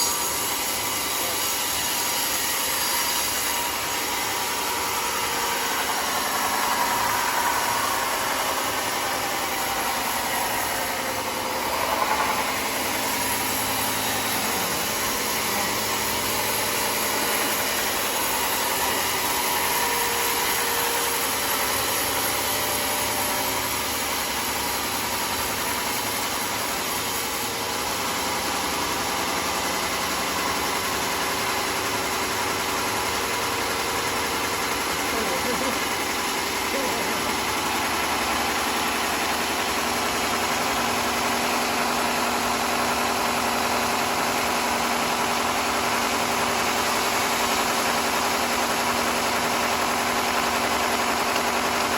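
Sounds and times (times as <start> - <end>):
sawmill machinery running: 0.0 - 51.9.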